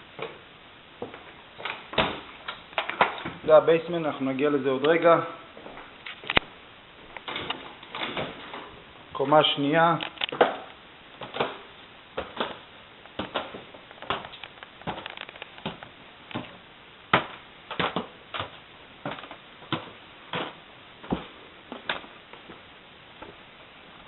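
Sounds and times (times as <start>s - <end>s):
footsteps indoors: 0.0s - 16.6s, 17.2s - 24.0s.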